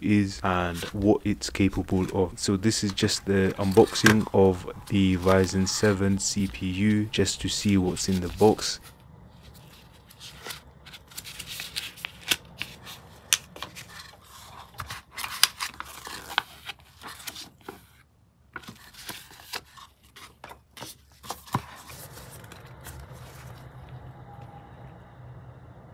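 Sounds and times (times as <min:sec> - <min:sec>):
paper and cardboard rustling: 0:00.0 - 0:23.7.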